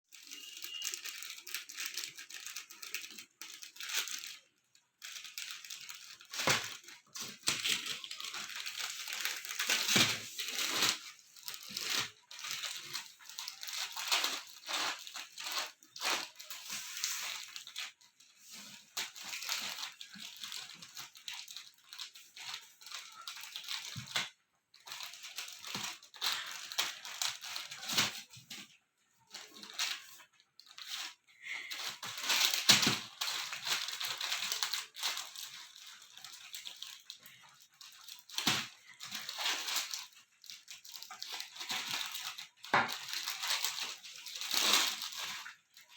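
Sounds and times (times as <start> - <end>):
parrots crunching dry noodles: 0.2 - 18.1, 18.9 - 28.4, 29.3 - 45.9.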